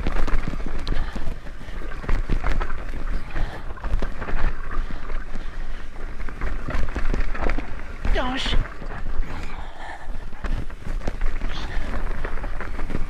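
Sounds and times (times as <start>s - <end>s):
bike rattling and clicking: 0.0s - 13.0s
tyres rumbling over dirt: 0.0s - 13.0s.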